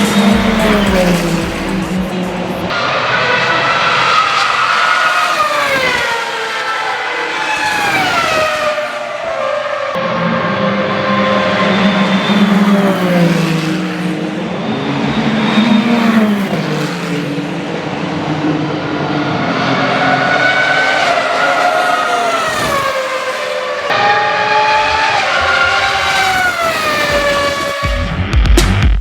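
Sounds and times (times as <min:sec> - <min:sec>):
racing car engines at high revs: 0:00.0 - 0:28.2.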